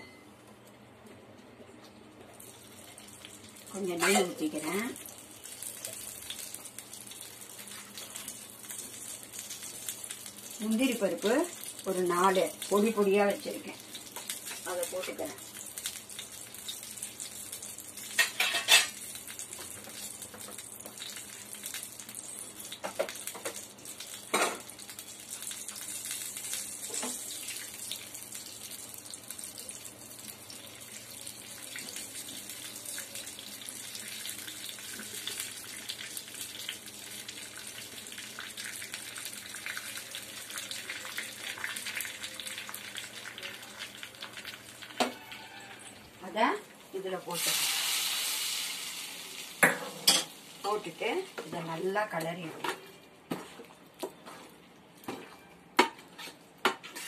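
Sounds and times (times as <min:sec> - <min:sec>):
nuts sizzling in hot fat: 0:02.3 - 0:52.7.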